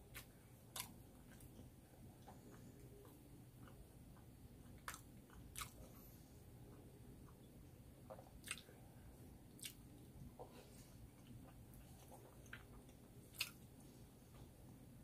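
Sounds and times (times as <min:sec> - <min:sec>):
person chewing noodles: 0:00.0 - 0:14.6
low steady hum: 0:00.0 - 0:15.0.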